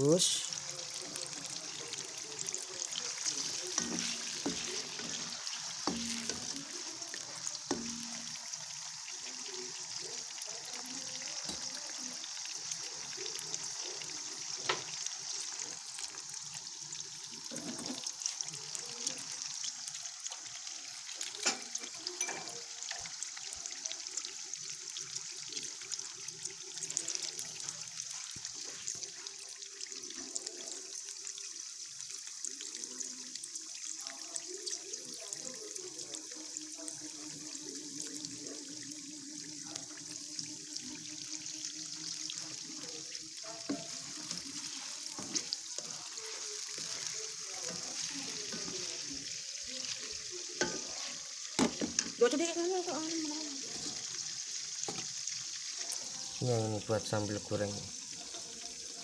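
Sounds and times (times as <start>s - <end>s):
tofu sizzling in hot oil: 0.0s - 59.0s.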